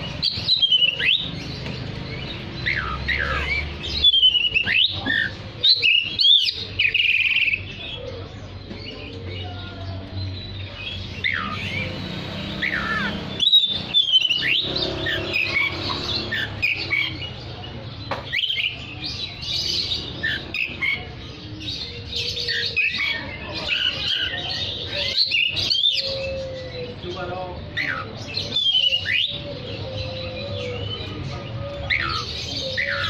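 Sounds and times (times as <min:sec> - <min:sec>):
bird singing whistles and chatter: 0:00.0 - 0:33.0.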